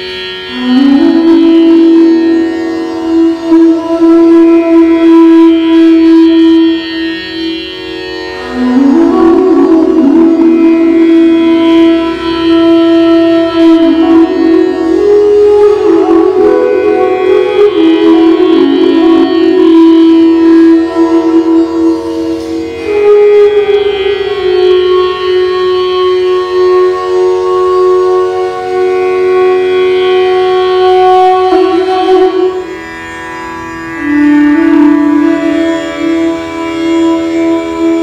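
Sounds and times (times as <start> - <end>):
bamboo flute sliding notes: 0.0 - 38.0.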